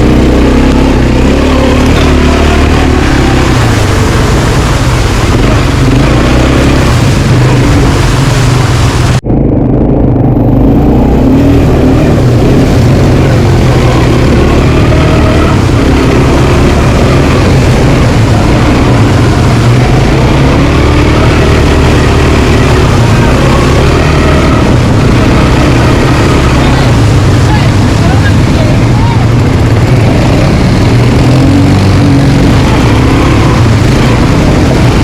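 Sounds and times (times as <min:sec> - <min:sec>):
quad bike engine running: 0:00.0 - 0:35.0
road and wind noise: 0:00.0 - 0:35.0.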